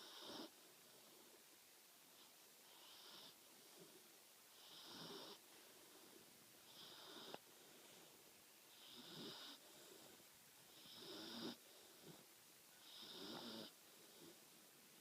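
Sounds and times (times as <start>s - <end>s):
puppy snoring softly: 0.0s - 1.4s, 2.2s - 14.5s.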